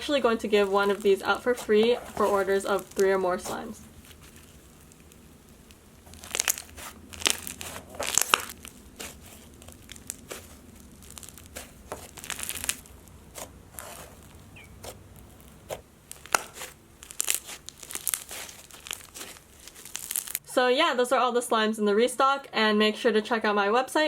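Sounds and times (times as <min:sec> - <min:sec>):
crinkly crackles and pops: 0:00.0 - 0:20.4
slime squished by hand: 0:00.4 - 0:20.4.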